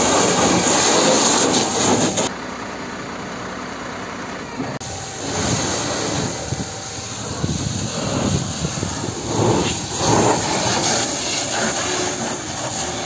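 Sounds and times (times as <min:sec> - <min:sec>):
fire hose water jet spraying: 0:00.0 - 0:02.3, 0:04.8 - 0:13.0.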